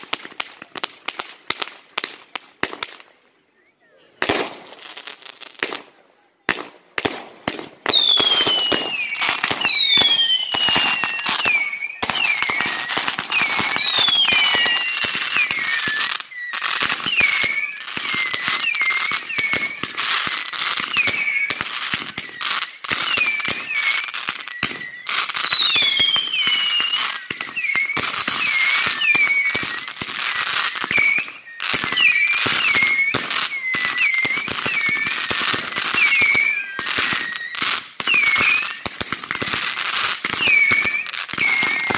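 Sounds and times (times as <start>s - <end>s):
fireworks bangs and crackling: 0.0s - 3.3s, 4.1s - 41.9s
fireworks whistles falling in pitch: 6.6s - 41.9s.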